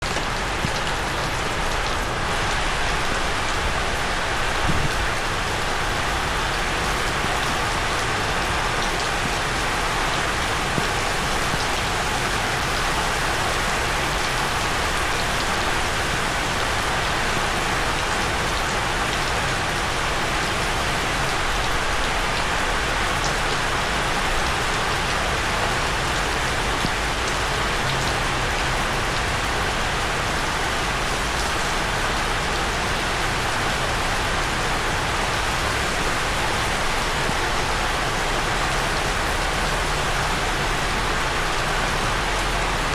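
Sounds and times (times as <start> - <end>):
rain on a rooftop: 0.0 - 42.9.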